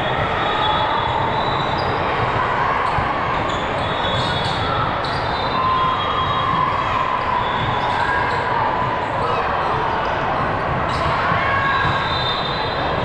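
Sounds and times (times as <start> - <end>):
din of crowd and players: 0.0 - 13.0.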